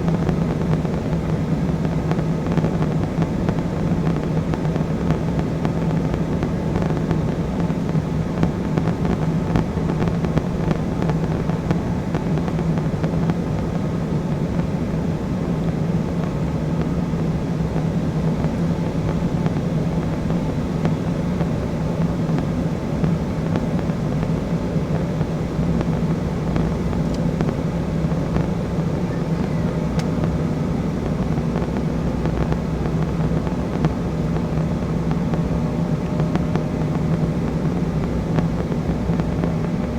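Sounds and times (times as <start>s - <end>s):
jet engines roaring: 0.0s - 39.9s
low cabin drone: 0.0s - 39.9s.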